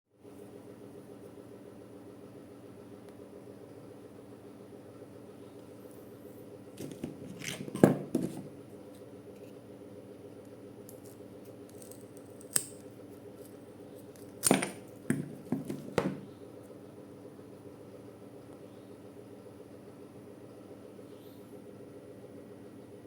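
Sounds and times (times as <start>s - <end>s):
steady low hum: 0.1s - 23.0s.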